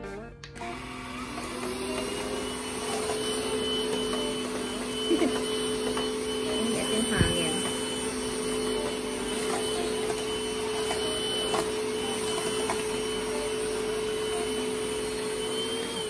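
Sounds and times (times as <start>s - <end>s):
handheld vacuum cleaner running: 0.6s - 16.0s.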